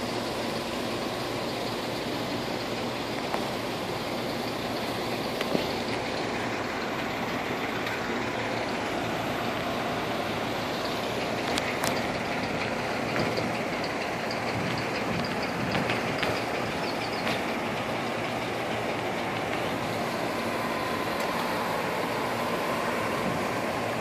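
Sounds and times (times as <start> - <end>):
vehicles in a car park: 0.0 - 24.0.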